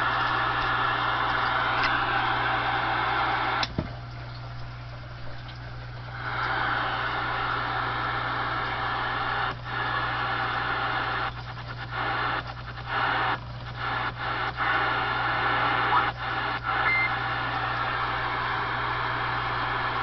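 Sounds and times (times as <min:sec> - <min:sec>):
radio static hiss: 0:00.0 - 0:03.9, 0:05.9 - 0:20.0
steady low hum: 0:00.0 - 0:20.0.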